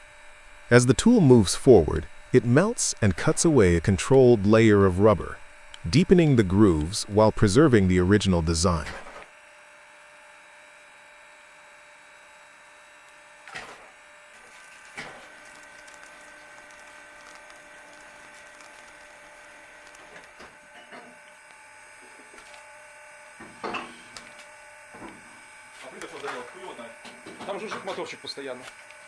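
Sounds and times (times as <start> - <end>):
electric hum with thin tones: 0.0 - 29.0.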